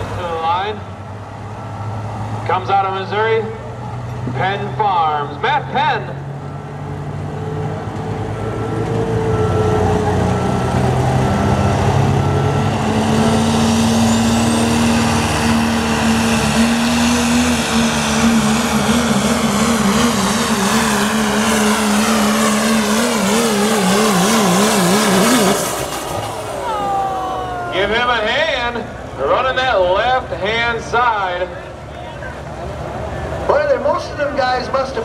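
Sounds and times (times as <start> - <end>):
diesel truck engine at full throttle: 0.0 - 35.0.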